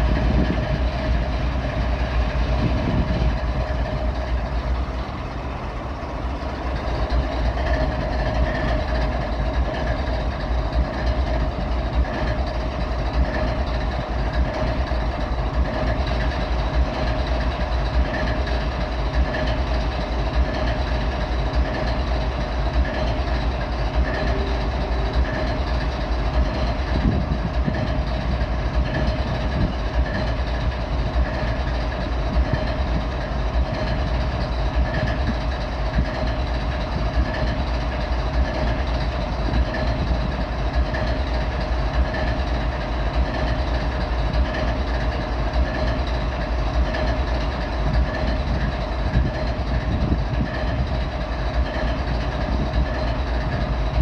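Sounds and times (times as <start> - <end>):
diesel locomotive idling: 0.0 - 54.0
steady whine: 0.0 - 54.0.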